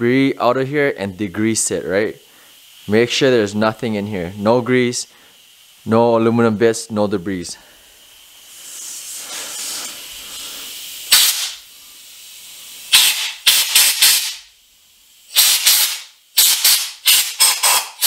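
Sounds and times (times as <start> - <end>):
soft steady air hiss: 0.0 - 17.5
compressed air blow gun blasts: 1.6 - 5.9, 7.6 - 18.0.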